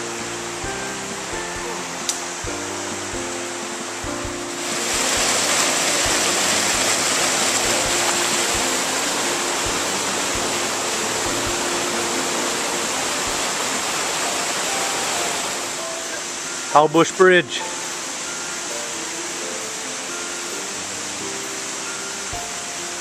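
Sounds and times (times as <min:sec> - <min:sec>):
faint background music: 0:00.0 - 0:23.0
mountain stream rushing over boulders: 0:00.0 - 0:23.0.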